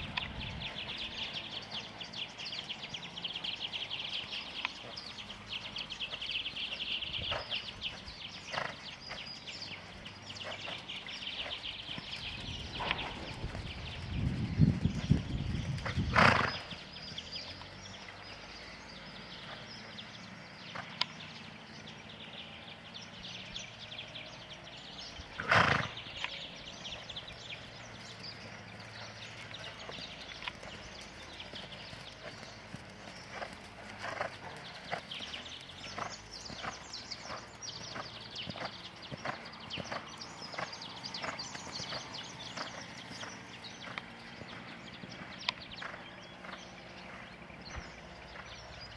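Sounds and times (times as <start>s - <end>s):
horse hoofbeats on sand: 0.0s - 17.8s, 25.4s - 48.9s.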